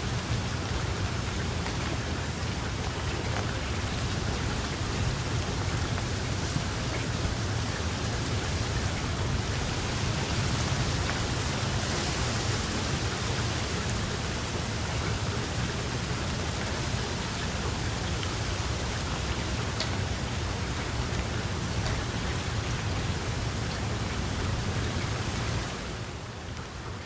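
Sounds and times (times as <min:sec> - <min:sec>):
steady rain hiss: 0:00.0 - 0:27.0
raindrop ticks: 0:00.3 - 0:27.0.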